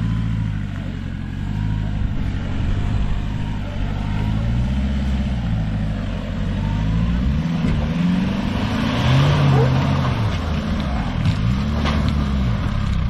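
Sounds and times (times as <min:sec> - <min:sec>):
diesel engine pulling under load: 0:00.0 - 0:13.0.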